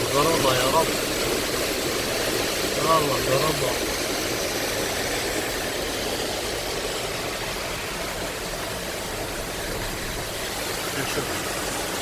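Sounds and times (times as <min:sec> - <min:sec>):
heavy rain on car: 0:00.0 - 0:05.0, 0:06.6 - 0:12.0.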